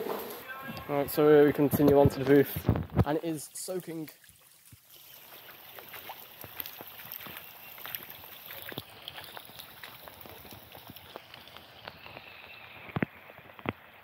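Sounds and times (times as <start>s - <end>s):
rain drop ticks: 0.3s - 14.0s.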